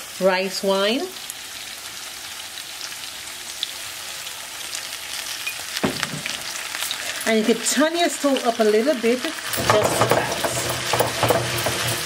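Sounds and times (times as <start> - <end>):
fish sizzling in frying pan: 0.0 - 12.0.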